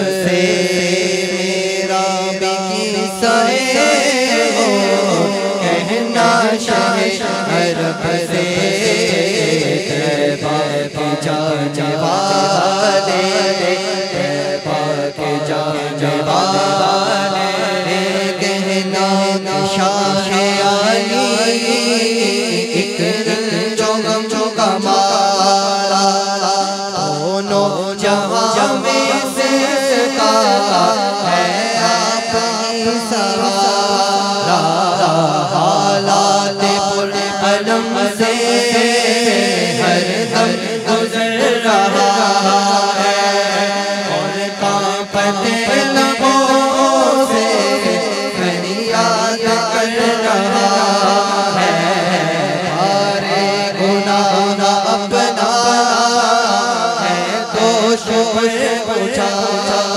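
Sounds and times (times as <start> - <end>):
men chanting through microphones: 0.0 - 59.9.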